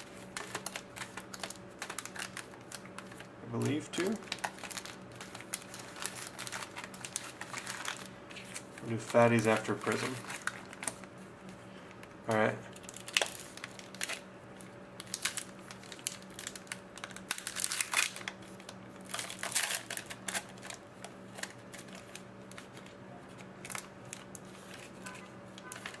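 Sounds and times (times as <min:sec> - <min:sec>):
cards and packaging rustling: 0:00.0 - 0:11.2, 0:12.0 - 0:14.2, 0:15.0 - 0:26.0.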